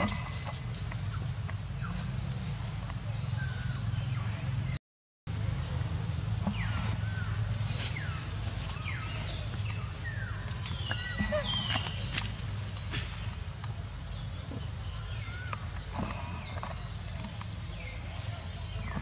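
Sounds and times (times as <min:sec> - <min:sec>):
small birds chirping: 0:00.0 - 0:04.8, 0:05.4 - 0:19.0.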